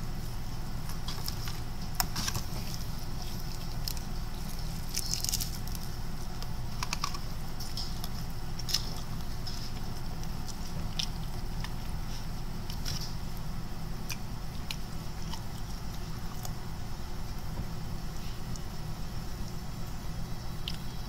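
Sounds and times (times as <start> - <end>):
crunchy food chewing: 0.0 - 21.0.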